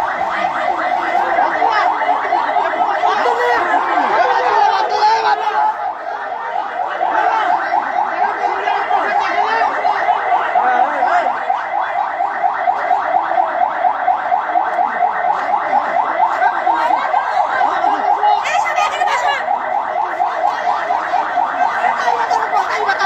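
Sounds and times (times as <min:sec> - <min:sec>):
electronic warbling alarm: 0:00.0 - 0:23.0.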